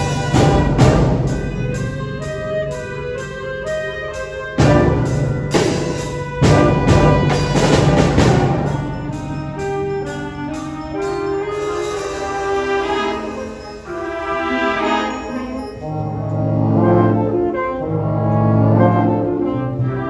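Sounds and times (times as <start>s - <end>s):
high percussion ticking: 0.0s - 16.5s
concert band playing chords: 0.0s - 19.8s
low brass: 0.0s - 20.0s.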